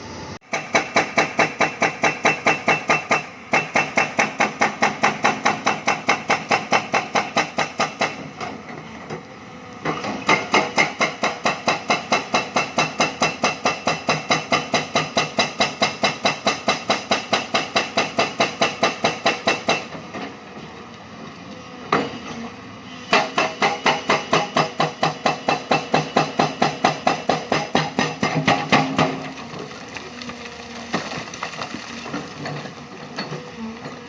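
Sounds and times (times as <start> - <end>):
hydraulic breaker hammering rock: 0.5 - 8.6, 9.8 - 20.4, 23.1 - 34.0.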